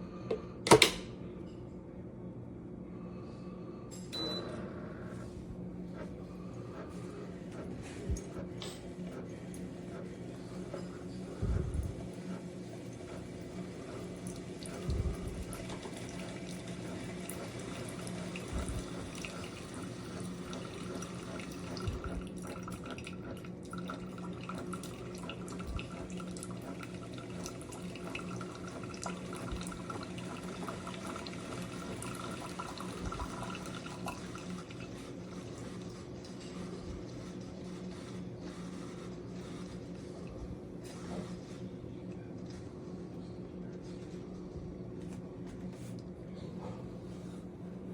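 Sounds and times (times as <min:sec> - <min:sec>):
coffee brewer pump hum: 0:00.0 - 0:01.4, 0:02.8 - 0:47.9.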